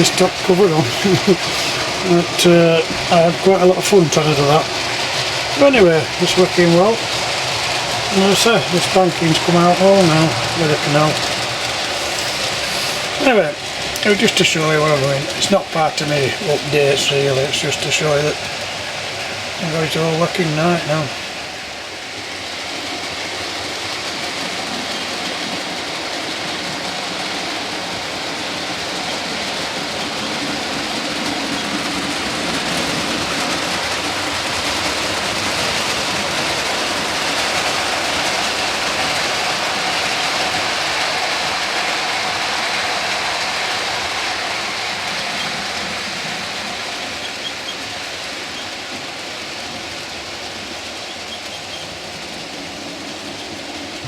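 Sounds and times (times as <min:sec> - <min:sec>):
model train rattling on track: 0:00.0 - 0:54.0.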